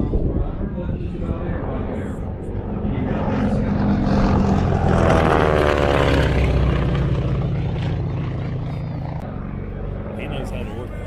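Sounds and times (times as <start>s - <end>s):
propeller airplane passing: 0.0s - 11.0s.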